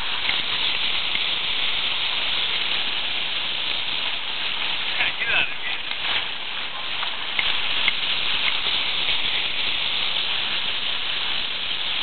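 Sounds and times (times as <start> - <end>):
rushing splashing sea water: 0.0 - 12.0
wind: 0.0 - 12.0.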